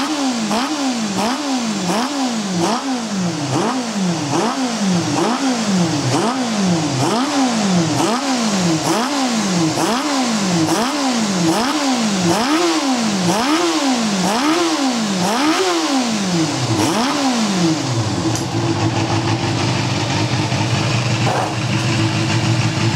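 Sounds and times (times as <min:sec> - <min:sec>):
engine idling: 0:00.0 - 0:22.9
engine throttle blips: 0:00.0 - 0:22.9.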